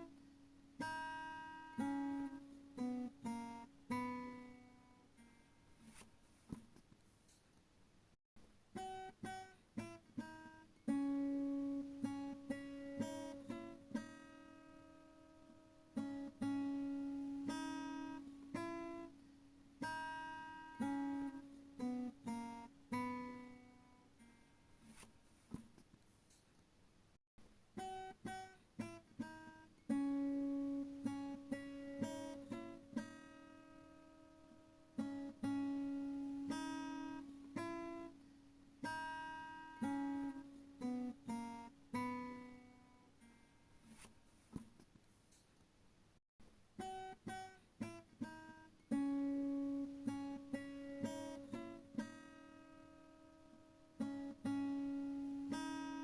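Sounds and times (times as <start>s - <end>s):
acoustic guitar picking melody: 0.0s - 6.6s, 8.7s - 25.6s, 27.8s - 44.8s, 46.8s - 56.0s.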